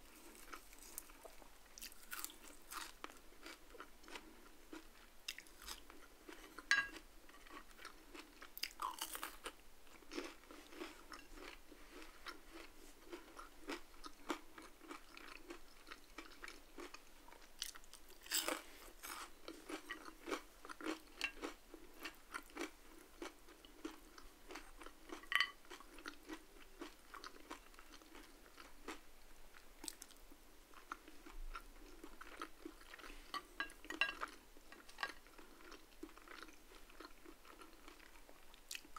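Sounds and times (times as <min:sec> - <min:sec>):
person chewing crunchy food: 0:00.0 - 0:30.2, 0:30.8 - 0:38.9.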